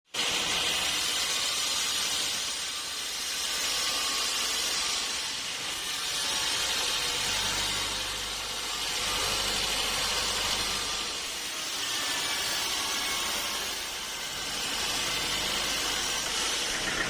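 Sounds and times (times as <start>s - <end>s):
sawmill machinery hiss: 0.2s - 17.0s.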